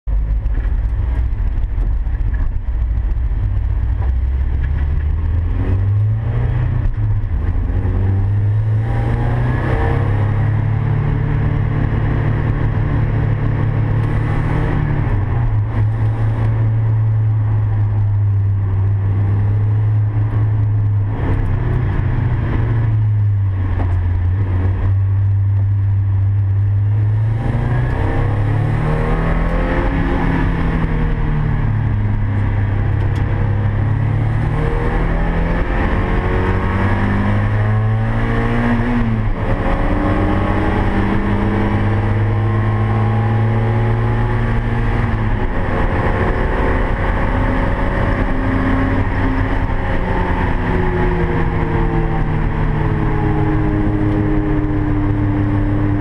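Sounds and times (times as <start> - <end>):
car engine revving: 0.0 - 56.0
tyre and wind noise: 0.1 - 56.0.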